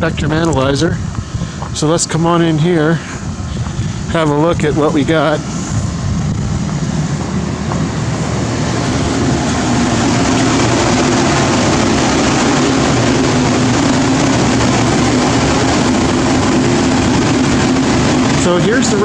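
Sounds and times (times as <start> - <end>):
cooling fans whirring: 0.0 - 19.0
rush of air: 0.9 - 1.8, 2.4 - 19.0.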